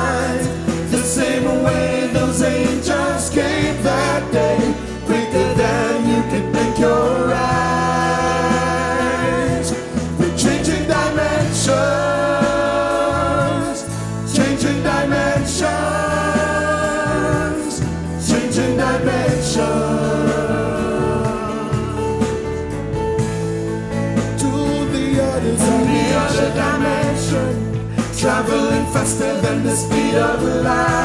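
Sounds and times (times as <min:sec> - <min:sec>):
bass line: 0:00.0 - 0:31.0
gospel singing with vibrato: 0:00.0 - 0:31.0.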